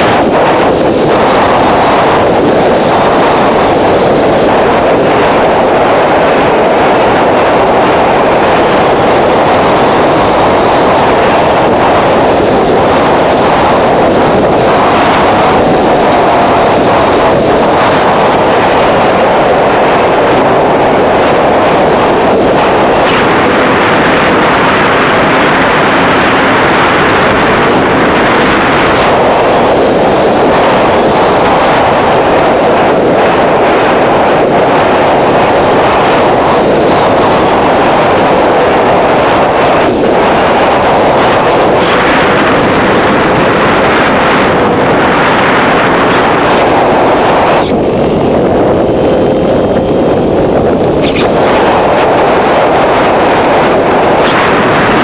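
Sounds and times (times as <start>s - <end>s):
faint whine: 0.0s - 55.0s
wind rushing: 0.0s - 55.0s.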